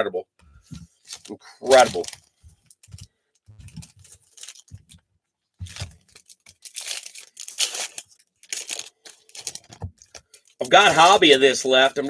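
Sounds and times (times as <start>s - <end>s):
wrapper ripping and crinkling: 1.0s - 5.0s, 5.6s - 11.4s.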